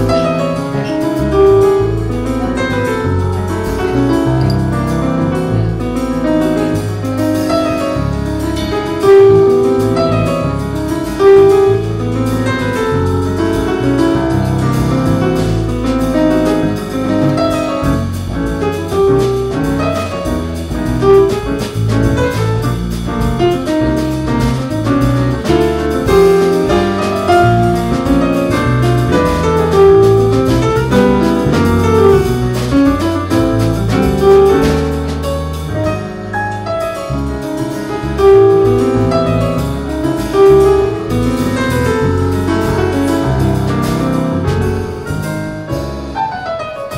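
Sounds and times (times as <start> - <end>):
bass: 0.0 - 46.9
drum kit: 0.0 - 46.9
loud piano notes: 0.0 - 46.9
piano trio playing: 0.0 - 46.9.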